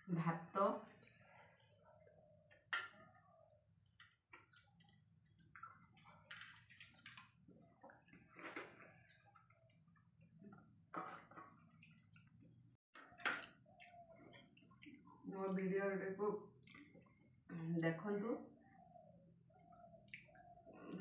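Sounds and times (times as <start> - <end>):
wet squishing of food by hand: 1.1 - 21.0.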